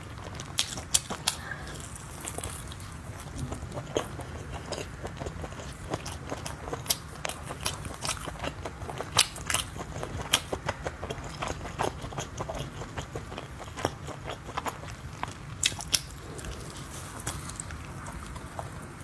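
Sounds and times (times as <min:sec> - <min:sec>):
person chewing meat: 0:00.0 - 0:19.0.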